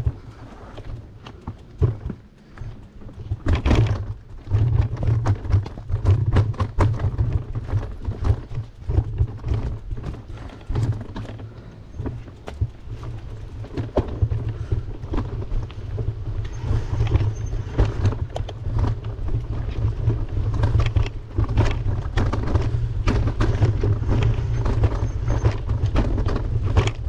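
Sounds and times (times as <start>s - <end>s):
bicycle rattling over rough ground: 0.0s - 27.0s.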